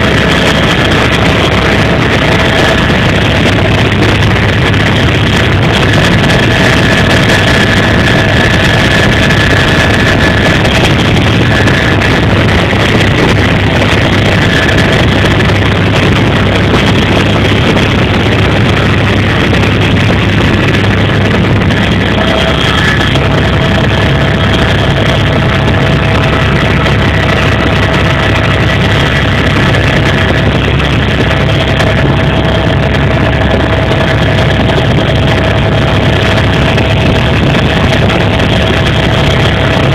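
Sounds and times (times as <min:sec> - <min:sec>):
helicopter engine and rotor noise: 0:00.0 - 0:39.9
turbine whine: 0:00.0 - 0:39.9.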